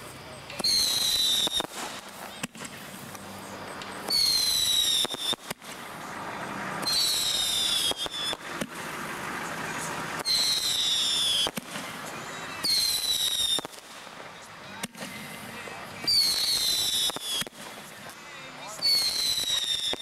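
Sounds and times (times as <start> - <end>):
fireworks pops and crackles: 0.0 - 20.0
fireworks whistles: 0.0 - 20.0.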